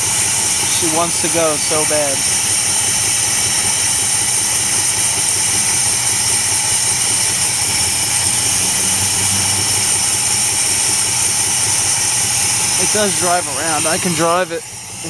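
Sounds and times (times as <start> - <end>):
car engine idling with misfire: 0.0 - 15.0.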